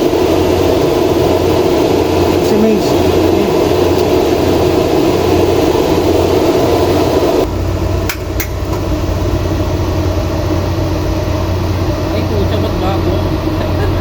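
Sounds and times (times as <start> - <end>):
electrical cabinet hum: 0.0 - 14.0.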